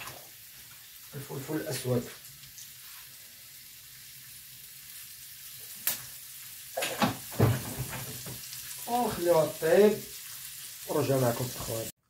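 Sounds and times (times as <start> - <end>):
meat sizzling in frying pan: 0.0 - 11.9.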